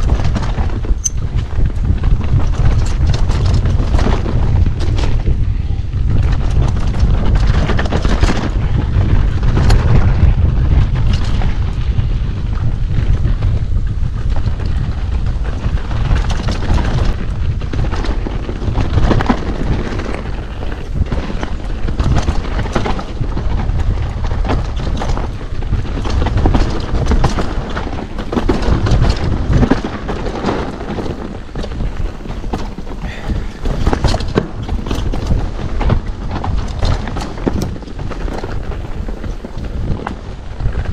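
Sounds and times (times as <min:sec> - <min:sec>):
bike knocking and rattling: 0:00.0 - 0:40.9
wind buffeting microphone: 0:00.0 - 0:40.9.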